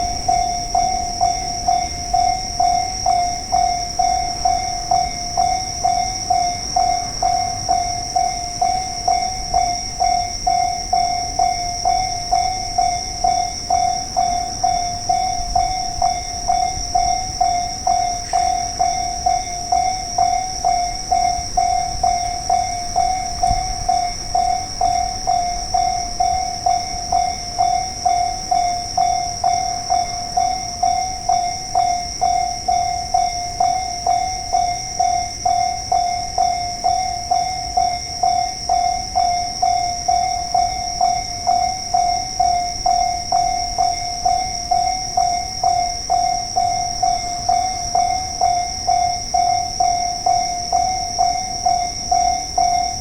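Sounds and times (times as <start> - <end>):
level-crossing warning bell: 0.0 - 53.0.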